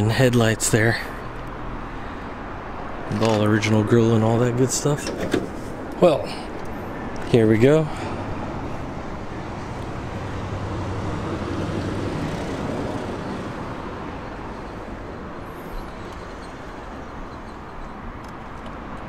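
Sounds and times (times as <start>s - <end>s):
low vehicle rumble: 0.9s - 19.0s.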